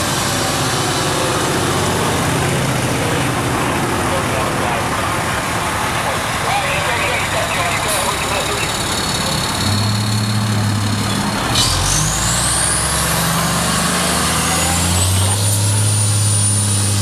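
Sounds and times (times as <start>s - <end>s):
diesel engine accelerating: 0.0s - 17.0s.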